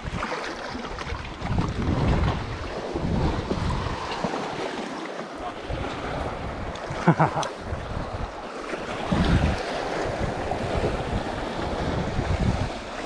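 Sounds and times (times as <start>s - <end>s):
wind buffeting microphone: 0.0s - 4.6s, 5.4s - 13.0s
sea waves washing against rocks: 0.0s - 13.0s.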